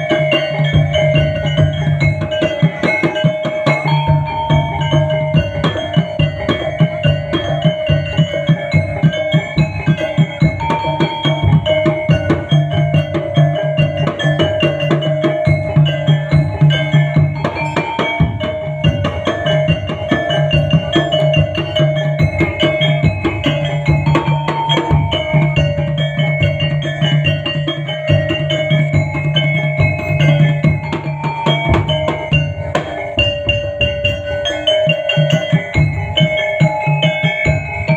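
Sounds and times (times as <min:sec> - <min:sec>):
fast dense drumming: 0:00.0 - 0:37.9
held tones: 0:00.0 - 0:37.9
repeating melodic line: 0:00.0 - 0:37.9.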